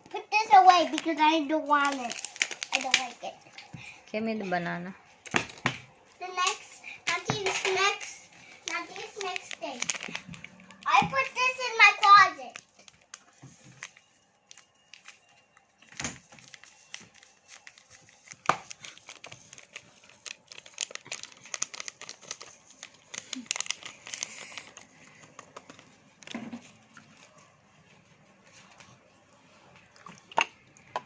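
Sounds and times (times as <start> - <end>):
plastic packaging crinkling: 0.6 - 4.0, 5.2 - 27.4.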